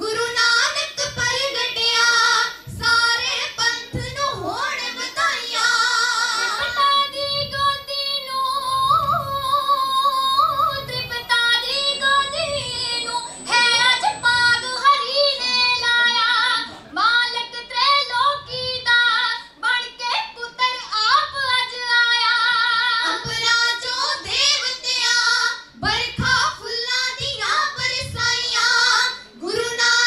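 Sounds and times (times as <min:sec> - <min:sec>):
girls singing through microphones: 0:00.0 - 0:30.0.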